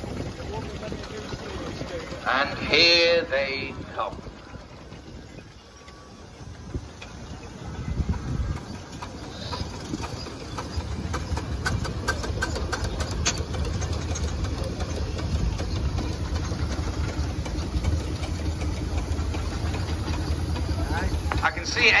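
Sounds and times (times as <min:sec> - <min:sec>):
steam engine rumbling: 0:00.0 - 0:22.0.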